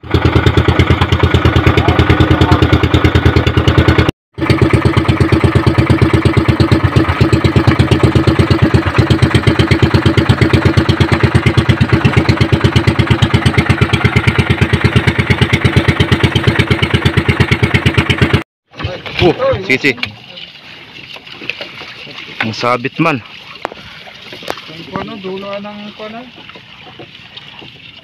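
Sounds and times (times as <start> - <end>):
boat engine puttering: 0.0 - 28.0.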